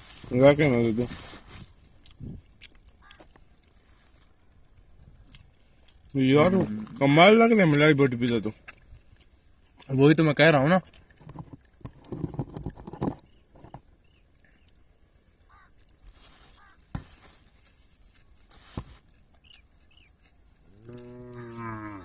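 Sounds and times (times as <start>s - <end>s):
soft chewing: 1.2s - 22.0s.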